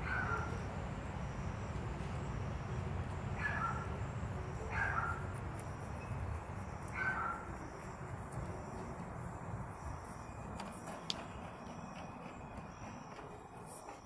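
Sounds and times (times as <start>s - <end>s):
faint high insect chirps: 0.2s - 14.0s.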